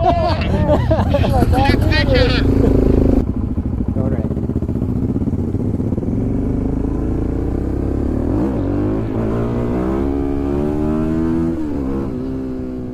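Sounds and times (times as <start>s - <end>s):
motorcycle engine accelerating: 0.9s - 12.9s.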